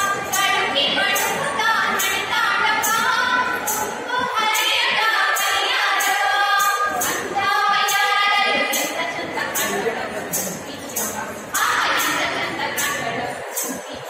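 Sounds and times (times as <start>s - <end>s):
voices singing a folk song: 0.0s - 9.9s, 11.5s - 13.9s
jingling percussion strikes: 0.0s - 14.0s.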